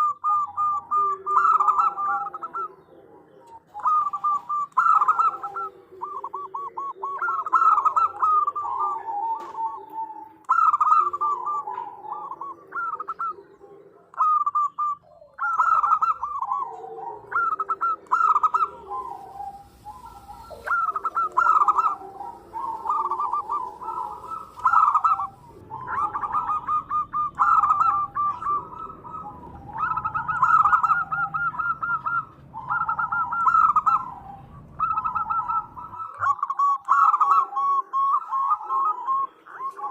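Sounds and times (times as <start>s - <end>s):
doves cooing trilled phrases: 0.0s - 39.9s
low cooing: 0.0s - 39.9s.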